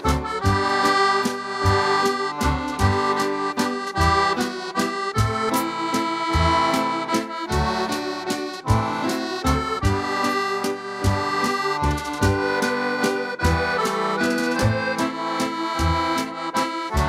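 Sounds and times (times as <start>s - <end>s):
steady bass pattern: 0.0s - 17.0s.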